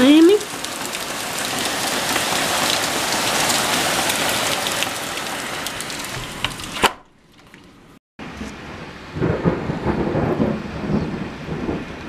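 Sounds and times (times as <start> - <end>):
heavy rain on pool enclosure: 0.0 - 12.0.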